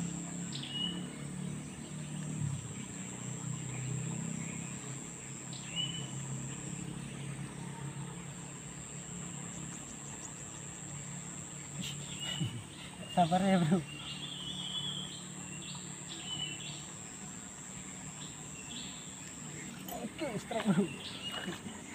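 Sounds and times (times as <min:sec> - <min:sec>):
bird chirp: 0:00.0 - 0:21.9.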